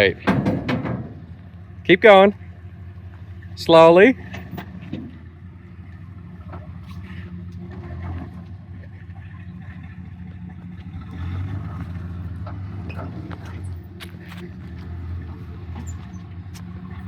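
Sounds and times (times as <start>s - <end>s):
truck engine running low: 0.0s - 17.0s.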